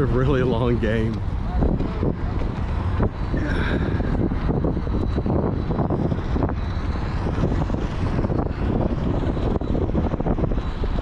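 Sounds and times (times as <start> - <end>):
steady low rumble: 0.0 - 11.0
wind buffeting microphone: 0.0 - 11.0.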